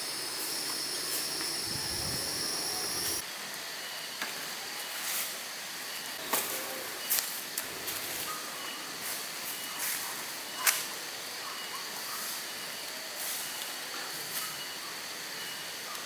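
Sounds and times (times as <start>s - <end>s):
steady hiss: 0.0s - 15.9s
faint high insect tones: 0.0s - 16.0s.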